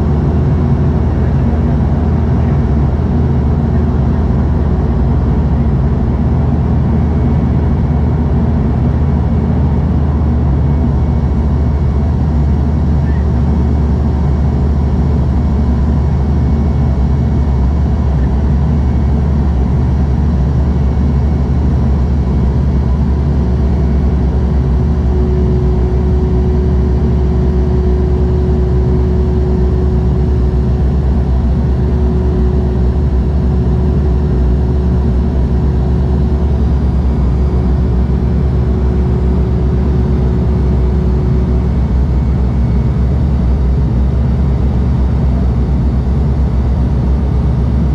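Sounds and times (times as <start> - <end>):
turboprop cabin drone: 0.0 - 47.9.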